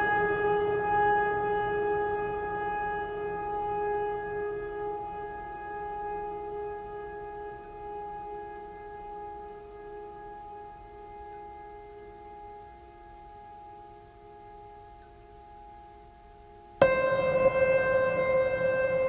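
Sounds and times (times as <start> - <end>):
sustained music chord: 0.0 - 19.0.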